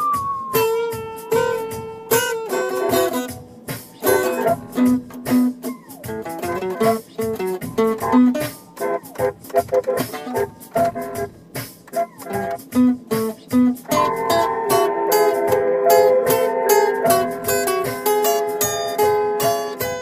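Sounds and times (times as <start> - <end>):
guitar melody plucked: 0.0 - 20.0.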